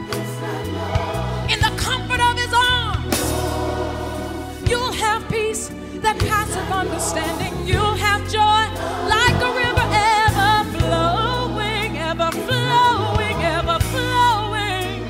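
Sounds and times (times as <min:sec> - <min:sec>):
held bass notes: 0:00.0 - 0:15.0
woman singing gospel: 0:01.4 - 0:03.3, 0:04.6 - 0:15.0.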